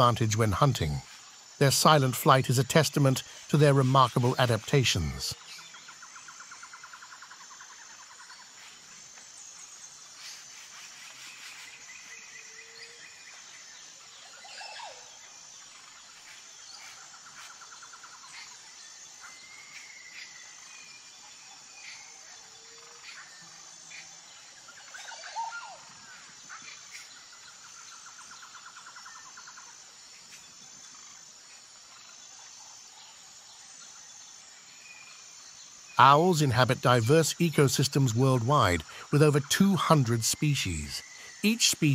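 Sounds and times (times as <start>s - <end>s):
insects buzzing: 0.0s - 41.9s
small birds chirping: 0.0s - 41.9s.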